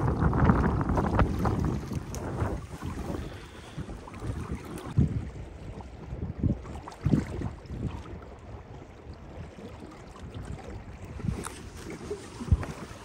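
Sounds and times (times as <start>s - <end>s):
waves lapping boat: 0.0s - 13.0s
wind buffeting microphone: 0.0s - 13.0s.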